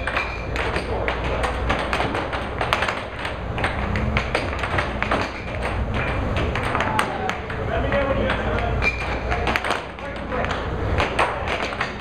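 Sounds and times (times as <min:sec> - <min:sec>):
air hockey puck clacking: 0:00.0 - 0:12.0.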